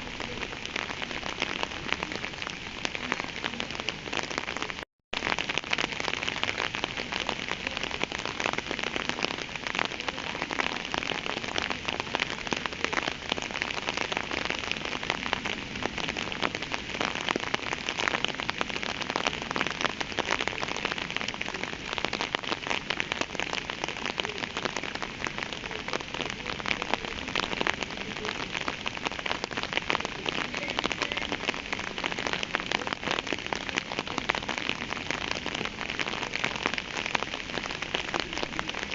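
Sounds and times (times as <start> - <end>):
raindrops pattering on a surface: 0.0 - 38.9
steady rain hissing: 0.0 - 38.9.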